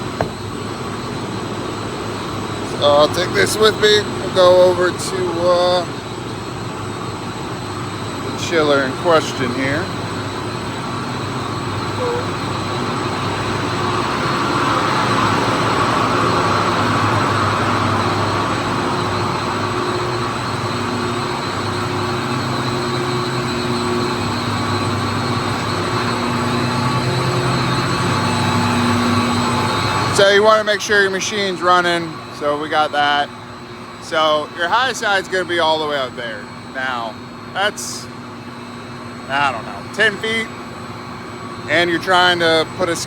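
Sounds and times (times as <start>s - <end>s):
commercial chiller drone: 0.0s - 43.0s.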